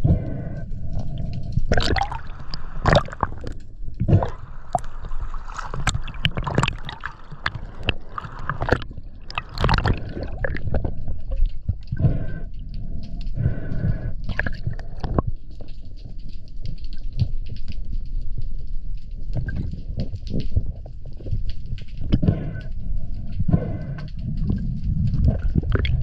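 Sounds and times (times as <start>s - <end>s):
underwater gurgling and bubbling: 0.0s - 18.4s, 19.1s - 26.0s
steady low rumble: 0.0s - 26.0s.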